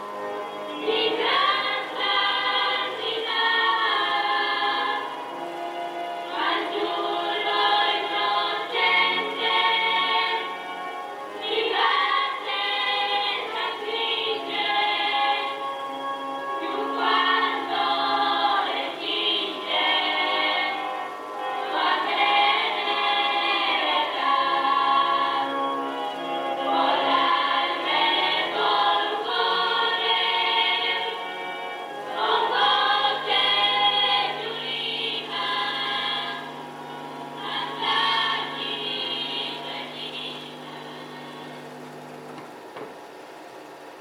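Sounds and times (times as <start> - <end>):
choir singing a hymn: 0.0 - 41.8.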